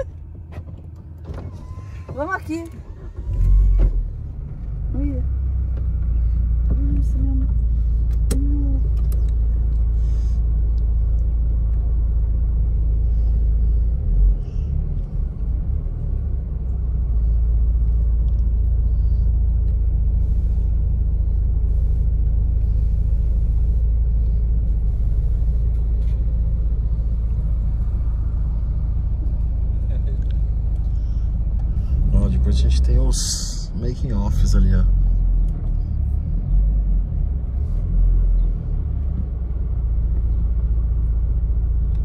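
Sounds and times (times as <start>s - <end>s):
car driving rumble: 0.0s - 42.0s.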